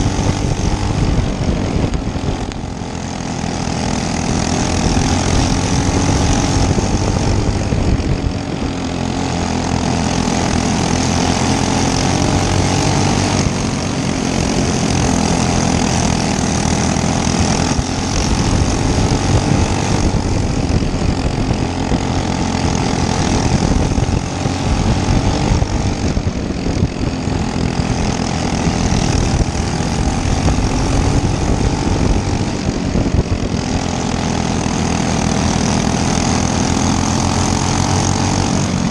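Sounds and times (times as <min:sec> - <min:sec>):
racing kart engine revving: 0:00.0 - 0:38.9.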